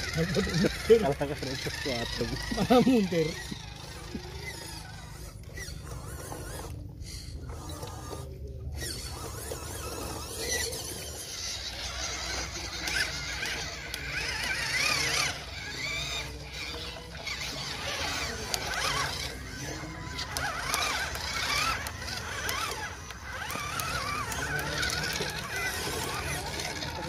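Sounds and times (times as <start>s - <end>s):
rc truck electric motors whining: 0.0s - 27.0s.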